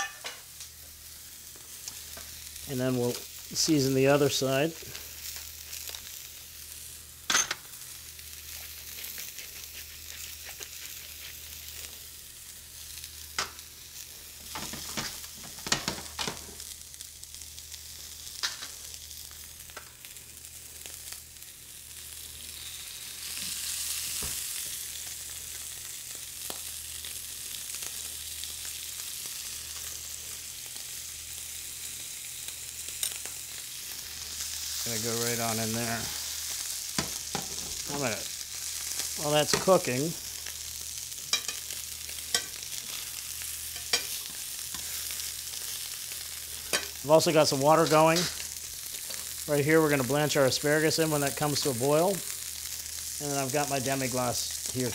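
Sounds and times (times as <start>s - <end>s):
meat sizzling in a skillet: 0.0s - 54.9s.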